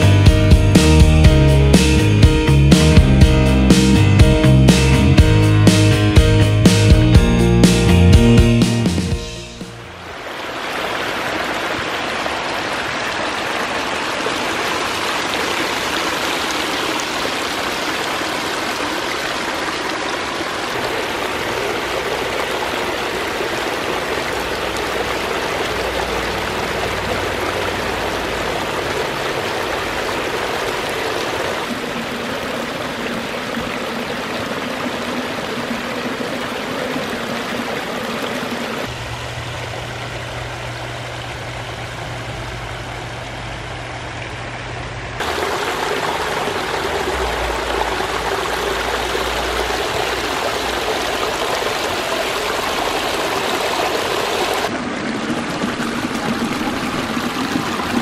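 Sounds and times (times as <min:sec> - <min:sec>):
water splashing over stones: 0:09.9 - 0:44.4, 0:45.2 - 0:58.0.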